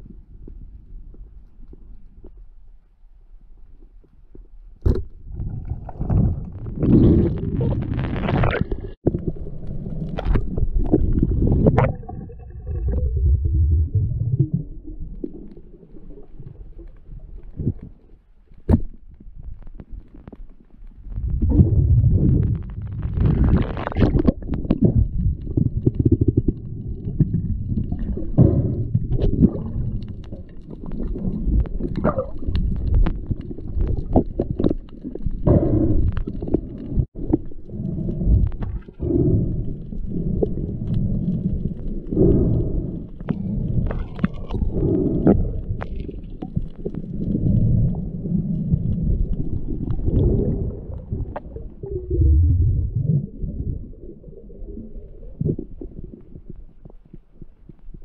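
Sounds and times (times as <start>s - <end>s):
muffled underwater rumble of water: 0.0s - 58.0s.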